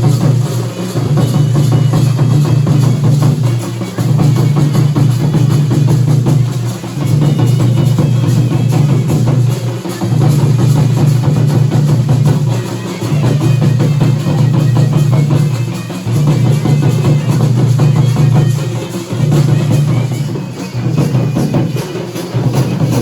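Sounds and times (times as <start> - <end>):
fast drumming: 0.0 - 23.0.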